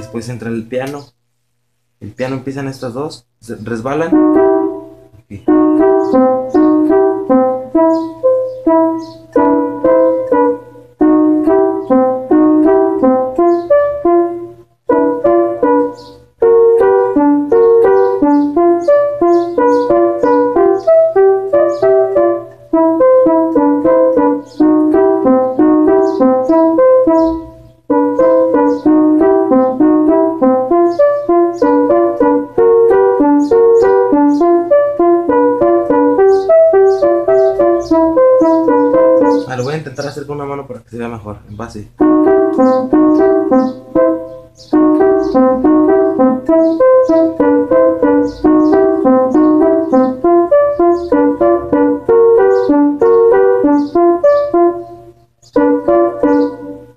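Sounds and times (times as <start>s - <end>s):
electronic keyboard piano melody: 0.0s - 1.2s, 2.2s - 56.9s.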